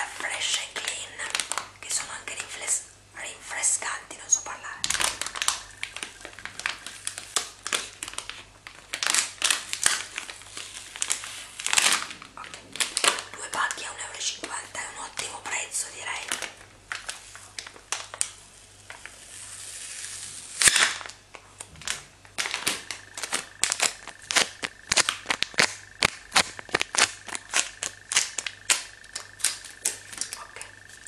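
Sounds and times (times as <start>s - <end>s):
packaging crinkling and crushing: 0.0s - 2.6s, 4.6s - 31.0s.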